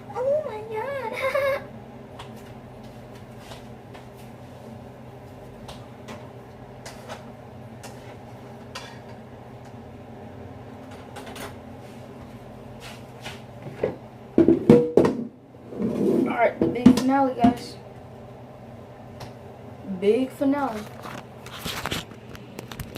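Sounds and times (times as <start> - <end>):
low electrical hum: 0.0 - 22.9.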